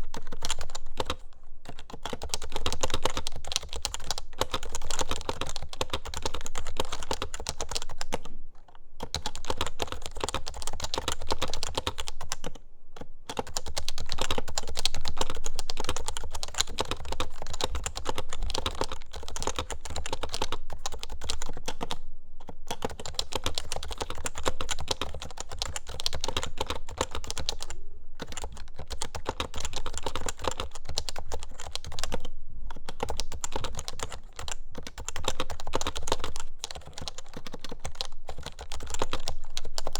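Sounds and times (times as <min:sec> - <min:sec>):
fast keyboard typing: 0:00.0 - 0:08.3, 0:09.0 - 0:39.9.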